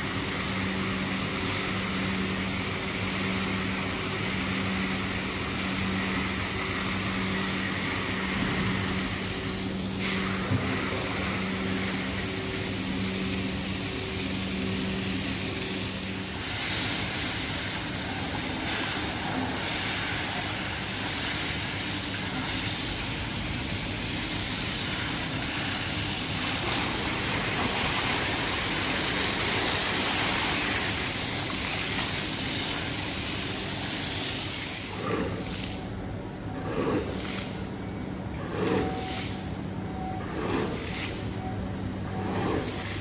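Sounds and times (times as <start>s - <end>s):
steady low hum: 0.0s - 43.0s
water spraying: 0.2s - 35.7s.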